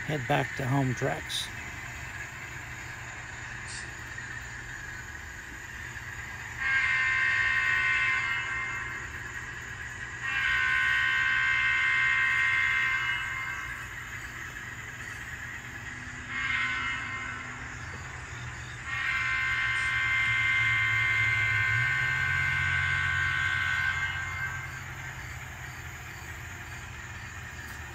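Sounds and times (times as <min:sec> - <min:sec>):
low diesel engine rumble: 0:00.0 - 0:27.9
model train diesel horn: 0:00.0 - 0:27.9.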